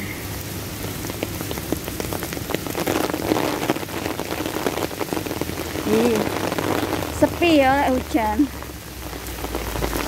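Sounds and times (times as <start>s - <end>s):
rain hissing on wet paving: 0.0s - 10.0s
raindrops tapping on umbrella: 0.8s - 10.0s.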